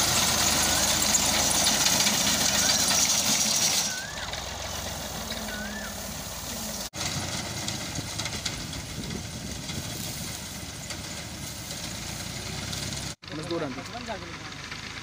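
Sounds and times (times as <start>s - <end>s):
dry straw crackling: 0.0s - 13.2s
diesel tractor engine running: 0.0s - 15.0s.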